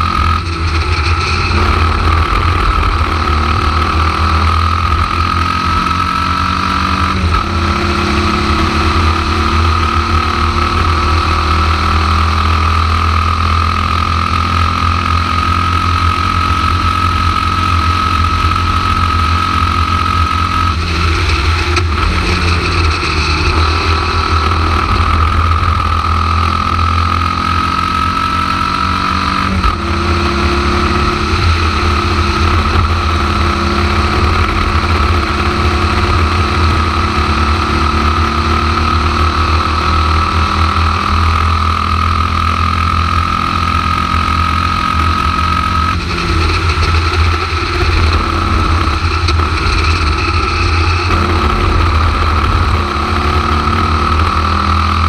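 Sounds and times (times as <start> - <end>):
racing car engine running hard: 0.0 - 55.0.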